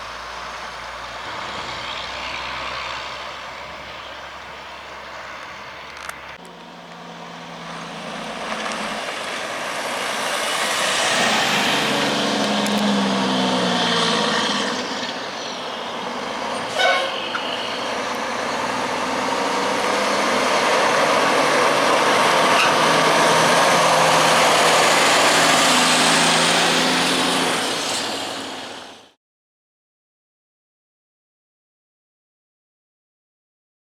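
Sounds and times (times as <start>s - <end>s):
truck passing: 0.0s - 29.2s.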